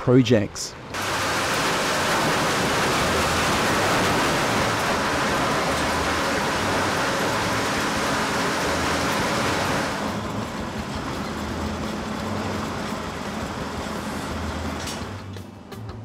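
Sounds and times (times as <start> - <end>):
wood-grinding machine running: 1.0 - 15.4.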